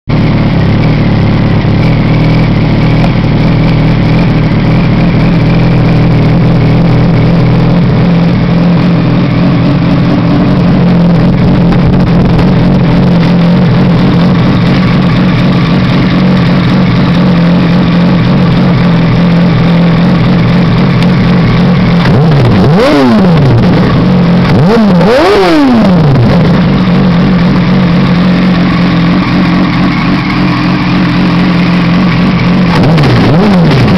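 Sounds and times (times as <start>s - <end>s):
motorcycle engine idling: 0.0s - 33.9s
motorcycle engine revving: 0.0s - 33.9s.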